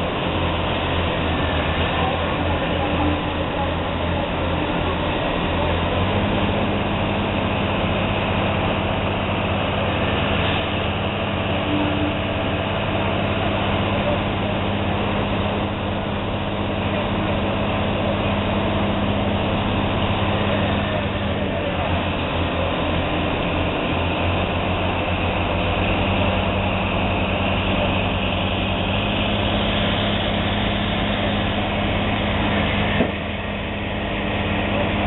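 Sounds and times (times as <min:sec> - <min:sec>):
pump engine humming: 0:00.0 - 0:35.0.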